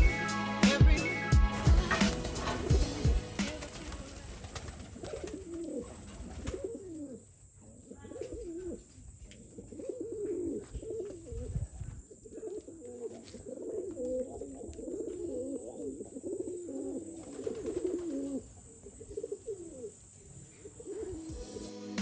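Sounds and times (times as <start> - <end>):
birds calling: 1.6 - 21.7
dove cooing: 1.6 - 21.7.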